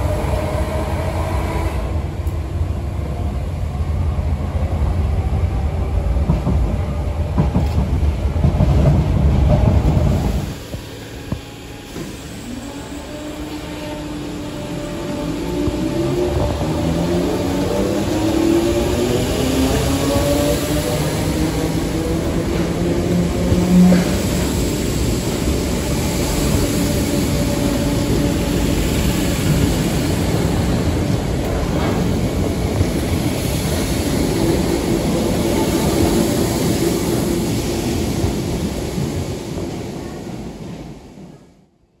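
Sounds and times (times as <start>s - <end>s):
train wheels rumbling on rails: 0.0s - 41.7s.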